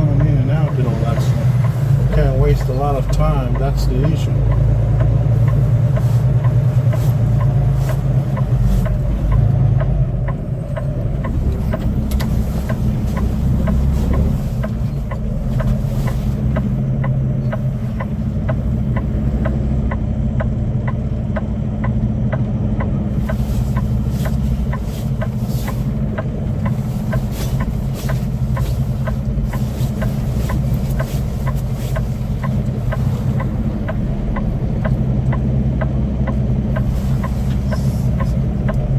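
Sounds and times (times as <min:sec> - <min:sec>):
regular ticking: 0:00.0 - 0:38.9
truck diesel engine droning: 0:00.0 - 0:38.9.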